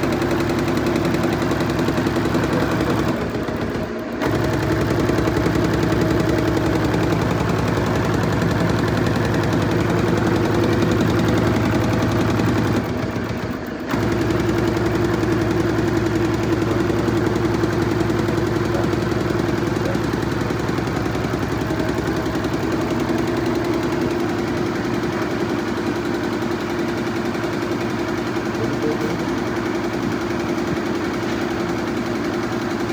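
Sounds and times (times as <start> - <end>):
embroidery machine needle clatter: 0.0 - 32.9
motor hum: 0.0 - 32.9.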